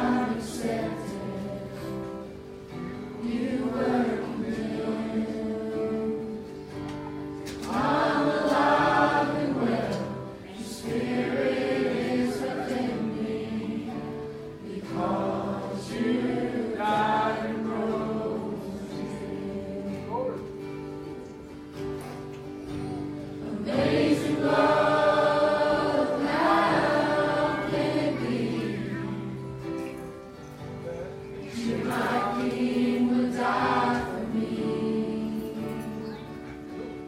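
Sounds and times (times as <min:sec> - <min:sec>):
group singing a gospel song: 0:00.0 - 0:20.4, 0:23.3 - 0:30.0, 0:31.4 - 0:37.0.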